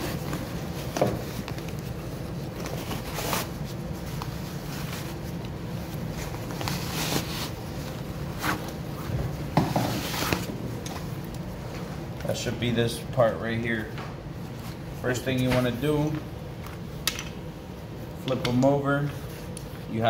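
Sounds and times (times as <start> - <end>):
fabric and straps rustling: 0.0 - 12.2, 14.2 - 18.2
steady low hum: 0.0 - 20.0.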